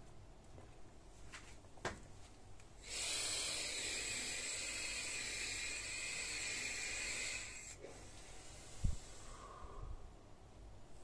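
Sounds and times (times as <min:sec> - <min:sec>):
steady hiss: 0:01.1 - 0:11.0.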